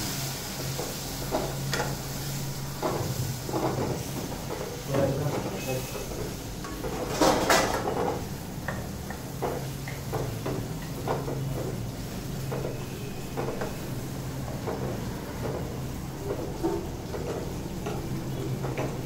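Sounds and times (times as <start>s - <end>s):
utensils knocking and scraping pots: 2.7s - 19.0s.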